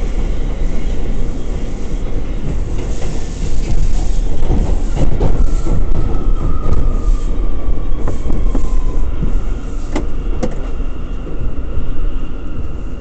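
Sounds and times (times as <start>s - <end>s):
subway car wheels rumbling on rail: 0.0s - 13.0s.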